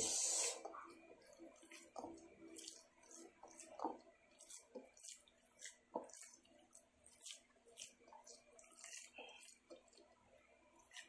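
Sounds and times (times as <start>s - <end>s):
hand kneading raw meat: 0.6s - 11.0s.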